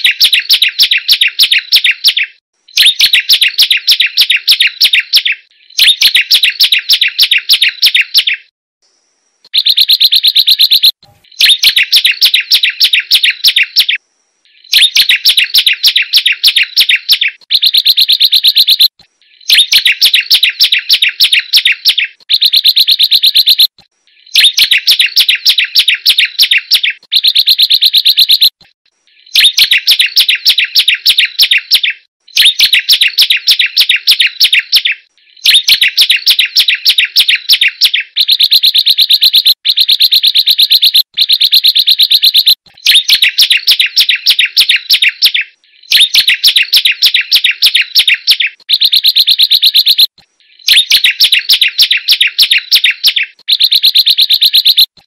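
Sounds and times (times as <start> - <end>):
bird singing high chirps: 0.0 - 55.0.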